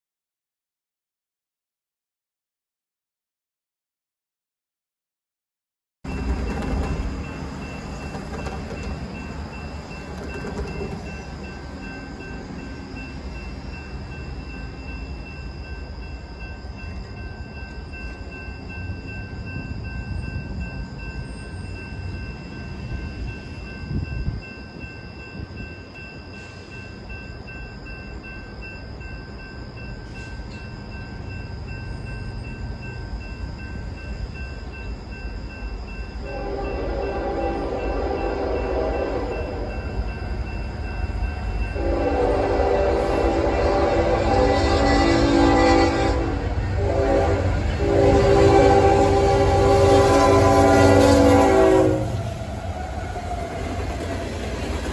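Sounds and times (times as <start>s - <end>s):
train rumble: 6.1s - 54.9s.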